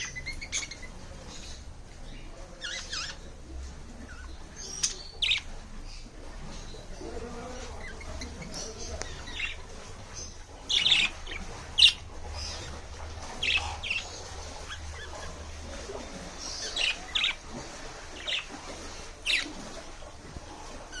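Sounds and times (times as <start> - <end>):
pet birds chirping: 0.0 - 21.0.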